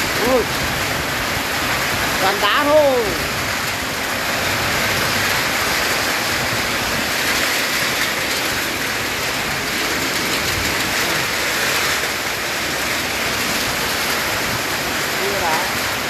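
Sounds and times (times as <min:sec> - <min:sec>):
heavy rain and hail: 0:00.0 - 0:16.0.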